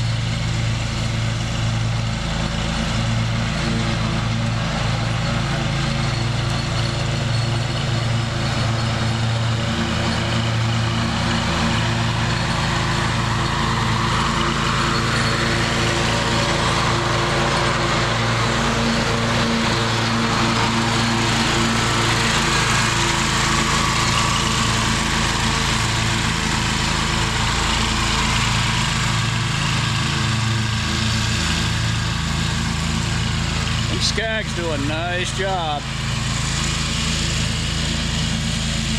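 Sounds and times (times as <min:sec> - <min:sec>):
mower engine hum: 0:00.0 - 0:38.9
cutting deck rush: 0:04.3 - 0:38.9.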